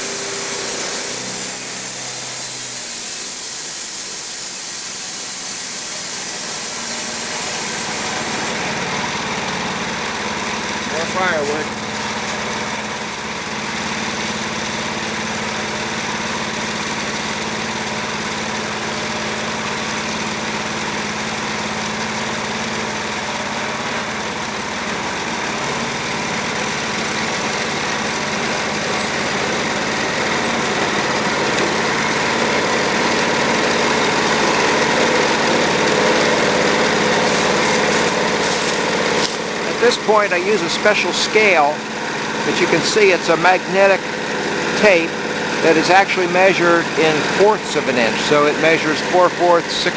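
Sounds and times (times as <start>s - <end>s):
band sawmill droning: 0.0s - 49.9s.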